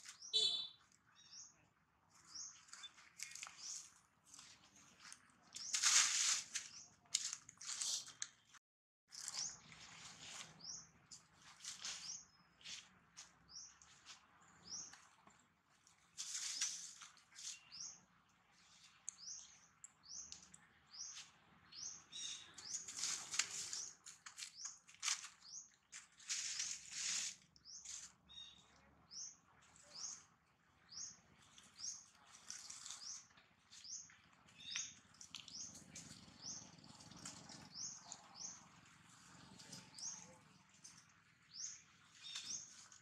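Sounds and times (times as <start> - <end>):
small bird chirping: 0.0 - 8.3, 9.1 - 15.2, 16.1 - 43.0.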